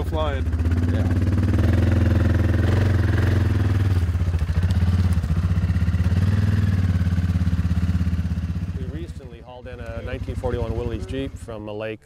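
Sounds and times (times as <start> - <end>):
helicopter running: 0.0 - 11.7.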